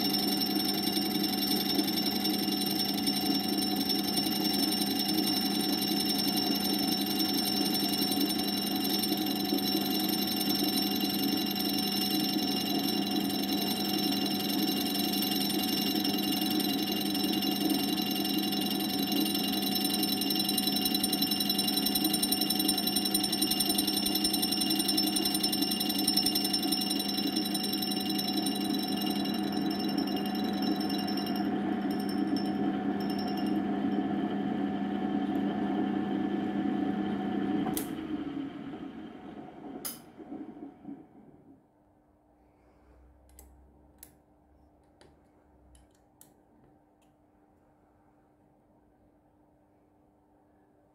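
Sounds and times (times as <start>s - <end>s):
grinder machine whine: 0.0s - 41.4s.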